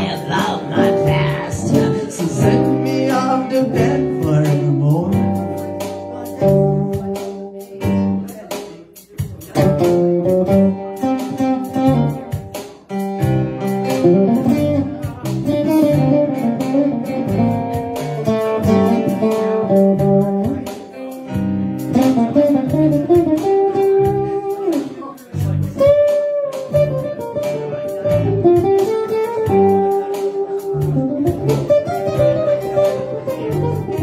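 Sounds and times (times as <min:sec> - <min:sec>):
acoustic guitar strumming: 0:00.0 - 0:08.5, 0:09.5 - 0:34.0
bass line: 0:00.0 - 0:34.0
keyboard accompaniment: 0:00.0 - 0:34.0.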